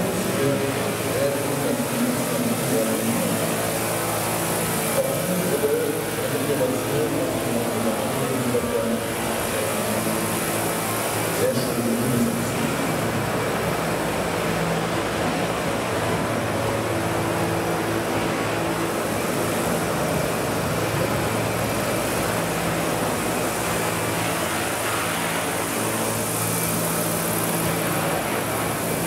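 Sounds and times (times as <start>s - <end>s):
model helicopter hovering: 0.0s - 29.0s.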